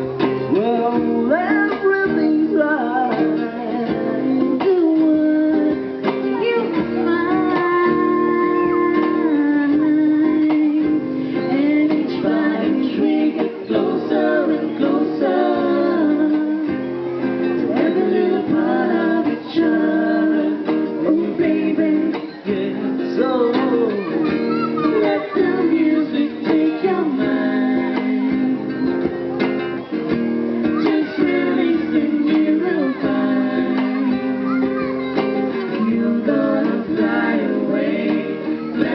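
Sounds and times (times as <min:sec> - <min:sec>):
person singing: 0:00.0 - 0:29.4, 0:30.4 - 0:38.9
strummed acoustic guitar: 0:00.0 - 0:38.9.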